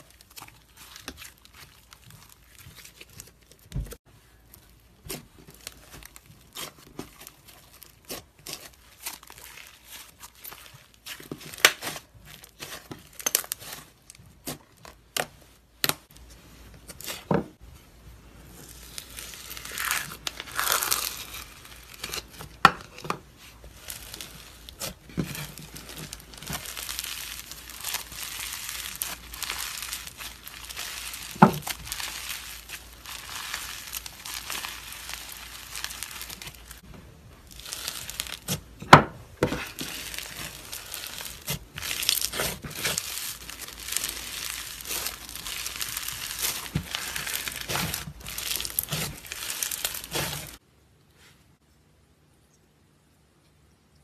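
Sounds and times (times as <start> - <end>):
slime crackling and crinkling: 0.0 - 50.6.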